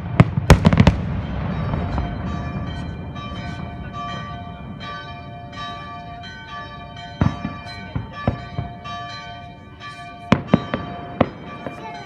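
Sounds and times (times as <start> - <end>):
church bells ringing: 0.0 - 12.0
fireworks banging: 0.0 - 12.0.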